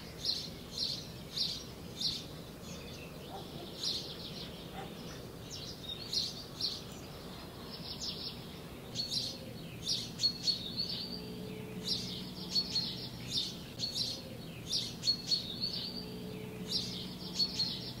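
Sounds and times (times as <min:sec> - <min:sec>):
faint low hum: 0:00.0 - 0:18.0
small birds chirping and trilling: 0:00.0 - 0:18.0.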